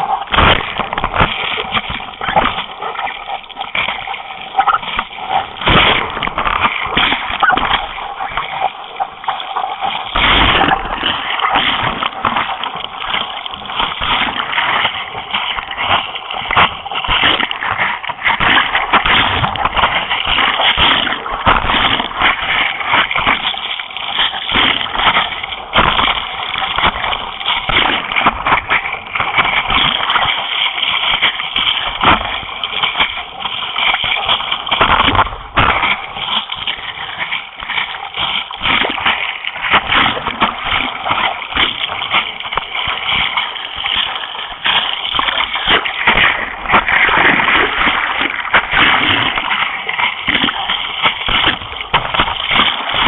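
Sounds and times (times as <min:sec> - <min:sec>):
water splashing and rushing: 0:00.0 - 0:53.0.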